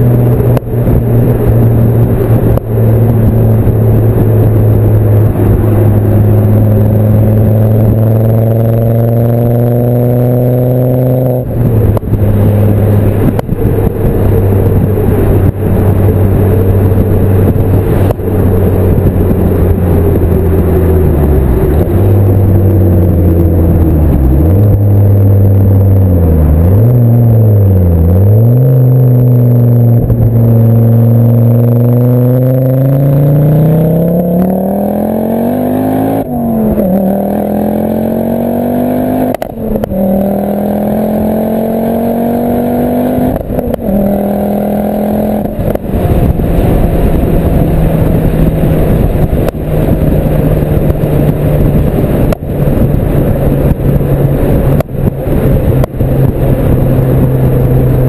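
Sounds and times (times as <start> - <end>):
car engine accelerating: 0.0 - 58.0
road and wind rush: 0.0 - 58.0.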